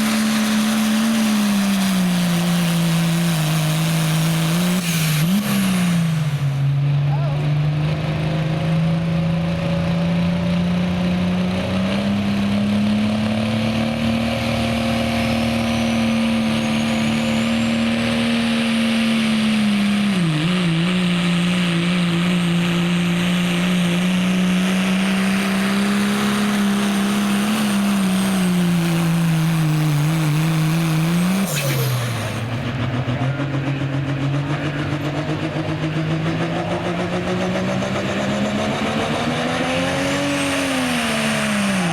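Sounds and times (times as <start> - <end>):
diesel engine revving under load: 0.0 - 41.9.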